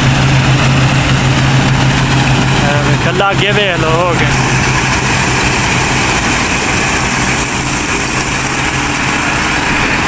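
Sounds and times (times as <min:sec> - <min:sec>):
diesel engine drone: 0:00.0 - 0:10.0.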